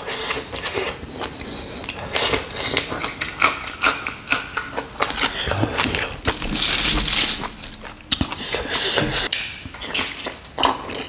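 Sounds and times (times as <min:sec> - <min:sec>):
chewing crunchy food: 0:00.0 - 0:11.0.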